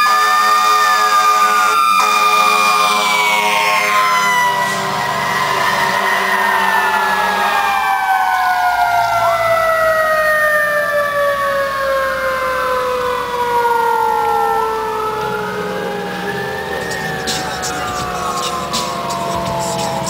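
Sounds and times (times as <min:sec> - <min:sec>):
mechanical siren wailing: 0:00.0 - 0:20.0.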